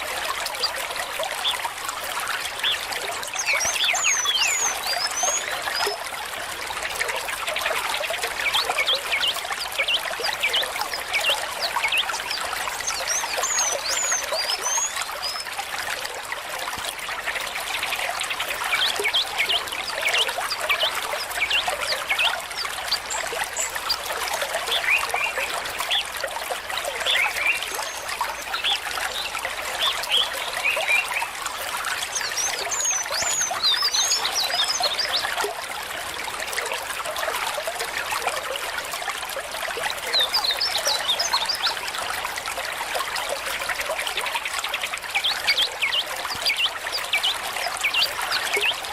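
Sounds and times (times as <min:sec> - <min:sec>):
stream babbling over stones: 0:00.0 - 0:48.9.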